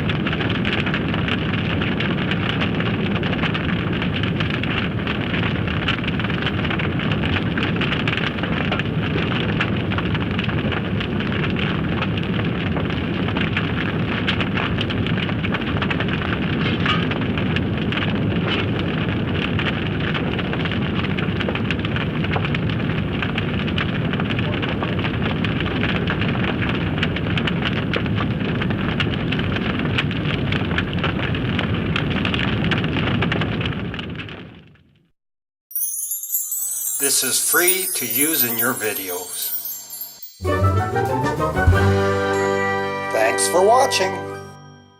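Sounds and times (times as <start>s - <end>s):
fire burning with crackles: 0.0s - 35.0s, 35.8s - 44.7s.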